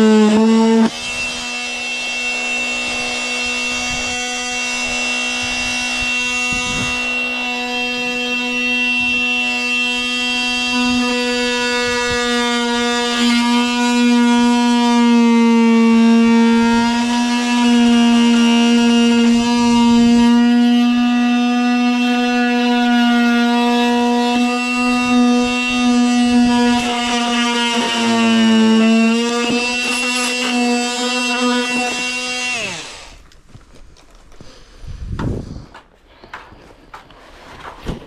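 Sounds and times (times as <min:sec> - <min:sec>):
oscillating multi-tool buzzing: 0:00.0 - 0:33.2.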